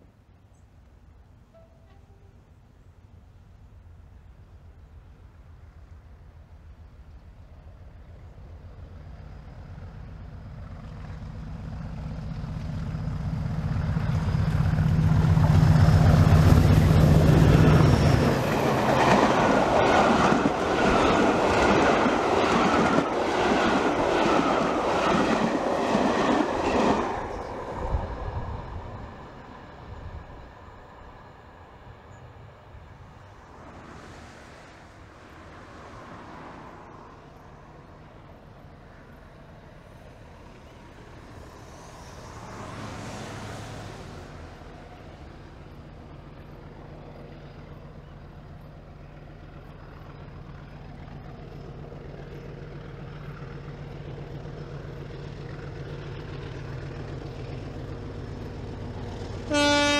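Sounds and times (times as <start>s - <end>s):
diesel locomotive passing: 1.0s - 59.9s.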